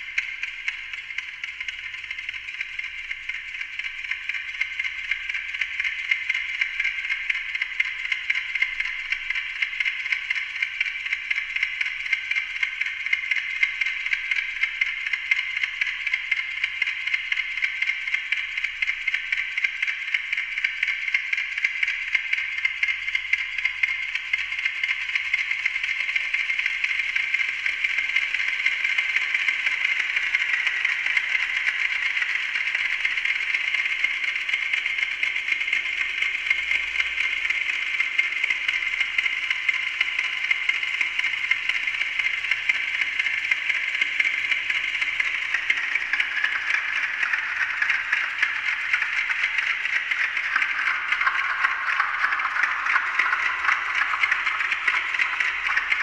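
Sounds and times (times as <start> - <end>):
dense rattle of clock ticks: 0.0 - 56.0.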